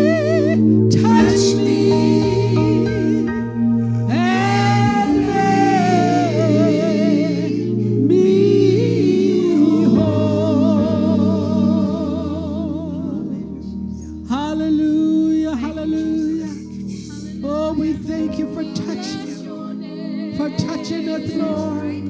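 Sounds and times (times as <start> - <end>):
gospel singer with vibrato: 0.0 - 22.0
sustained chords: 0.0 - 22.0.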